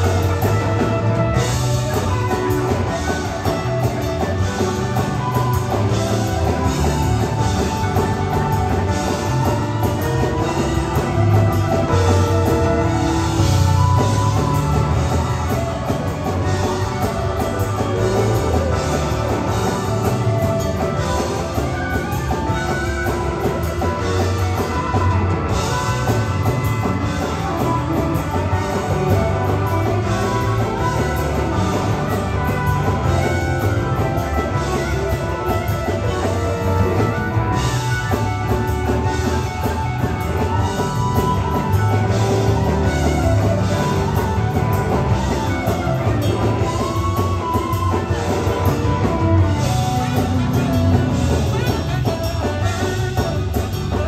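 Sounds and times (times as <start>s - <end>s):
electric guitar lead lines: 0.0s - 54.0s
live rock band playing: 0.0s - 54.0s.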